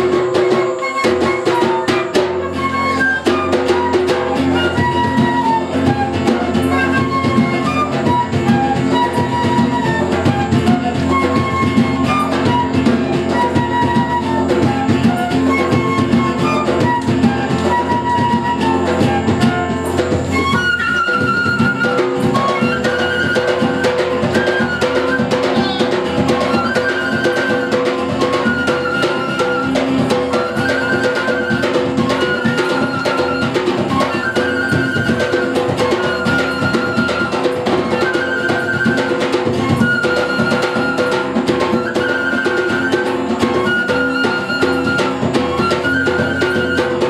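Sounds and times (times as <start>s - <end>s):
acoustic guitar: 0.0s - 47.0s
flute: 0.0s - 47.0s
hand drum rhythm: 0.0s - 47.0s.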